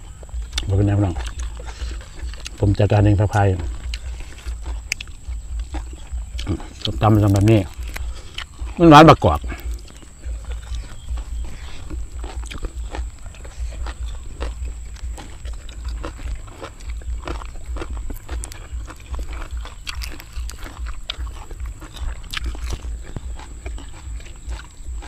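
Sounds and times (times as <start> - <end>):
chewing and crunching food: 0.0 - 25.0.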